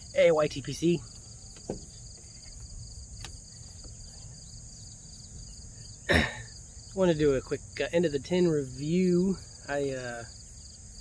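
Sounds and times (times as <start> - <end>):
insects buzzing and chirping: 0.0 - 11.0.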